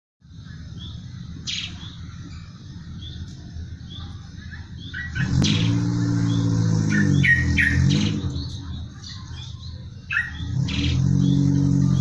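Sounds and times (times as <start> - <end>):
sparrow chirping: 0.3 - 12.0.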